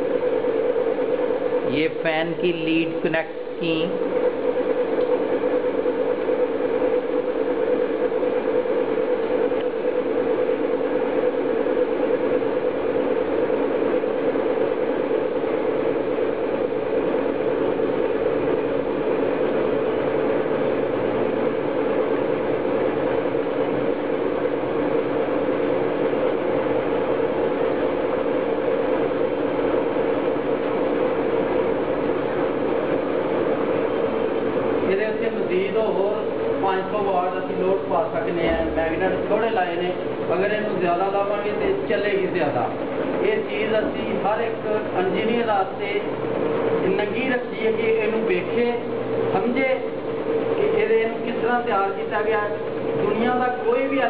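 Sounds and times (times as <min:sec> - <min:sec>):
motor whirring with steady hum: 0:00.0 - 0:54.0.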